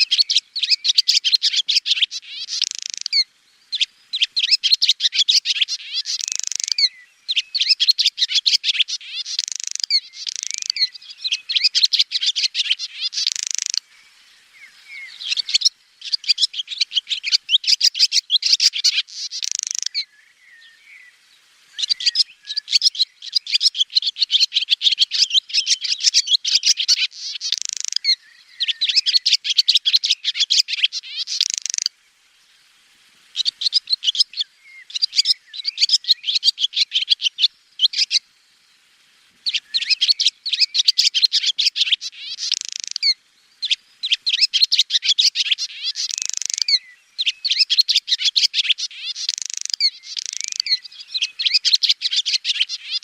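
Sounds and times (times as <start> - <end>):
swallows twittering: 0.0 - 31.9, 33.3 - 38.2, 39.4 - 53.0.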